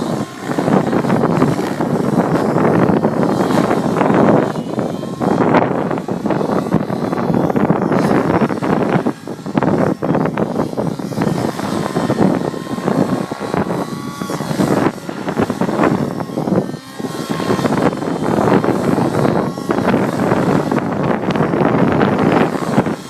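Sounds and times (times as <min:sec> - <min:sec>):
model helicopter engine and rotor: 0:00.0 - 0:23.0
wind buffeting microphone: 0:00.0 - 0:23.0.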